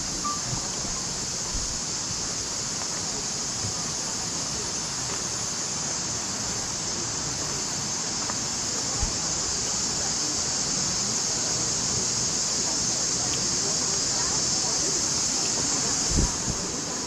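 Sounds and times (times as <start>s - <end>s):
constant high hiss: 0.0s - 17.0s
creek rushing: 0.0s - 17.0s.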